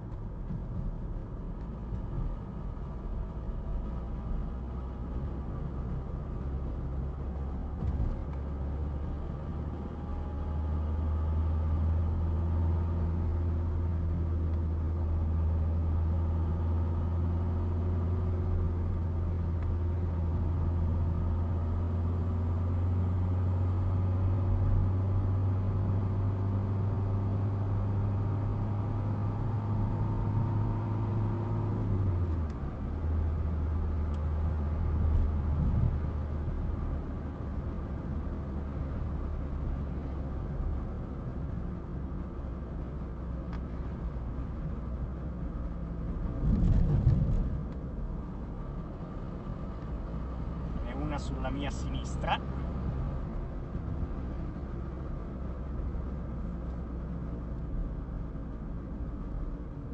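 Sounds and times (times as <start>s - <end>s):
car engine and road drone: 0.0s - 59.9s.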